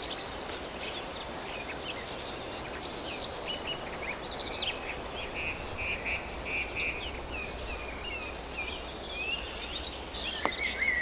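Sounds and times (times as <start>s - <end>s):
birds calling and singing: 0.0s - 11.0s
low background hiss: 0.0s - 11.0s.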